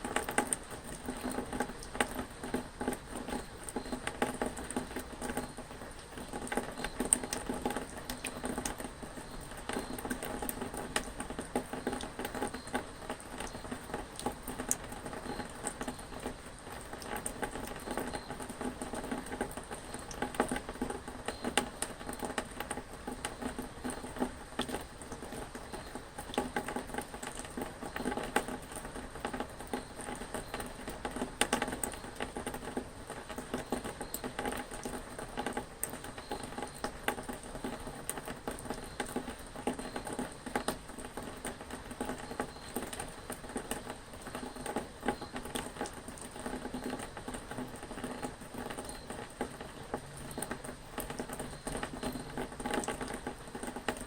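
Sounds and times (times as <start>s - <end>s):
rain drops ticking: 0.0s - 54.0s.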